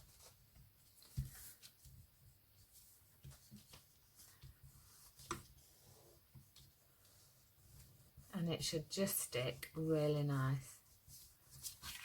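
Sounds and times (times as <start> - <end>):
acetate sheet rustling: 0.0 - 12.0.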